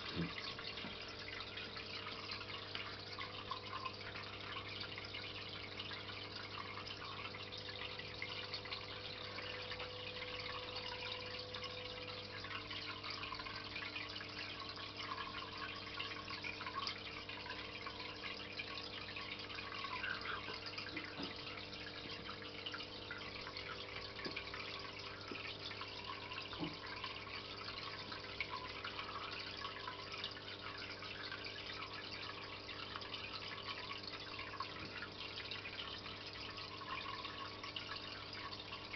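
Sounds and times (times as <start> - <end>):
pump low hum: 0.0 - 38.9
water trickling and bubbling: 0.0 - 38.9.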